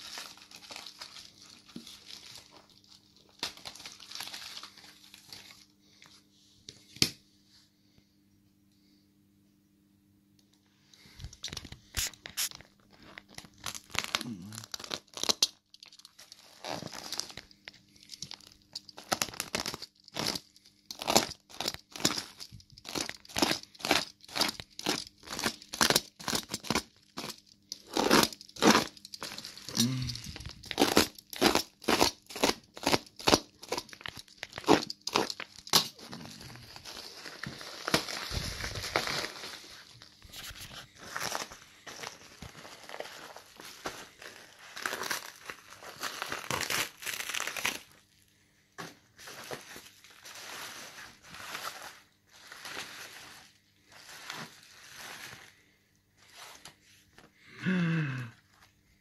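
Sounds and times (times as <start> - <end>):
plastic film and bubble wrap crinkling: 0.0 - 6.3, 11.1 - 58.8.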